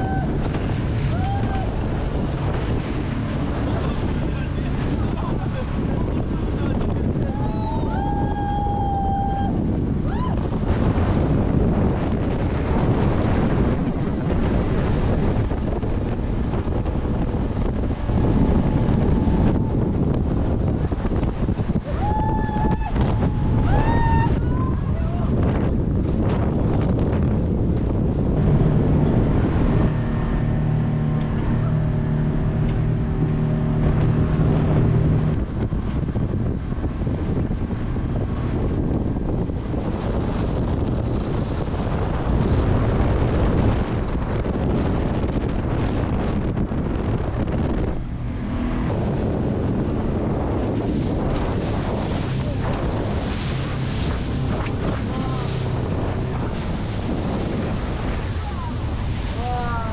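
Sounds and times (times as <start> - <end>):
boat hull rushing through water: 0.0 - 59.9
motorboat engine drone: 0.0 - 59.9
wind buffeting microphone: 0.0 - 59.9.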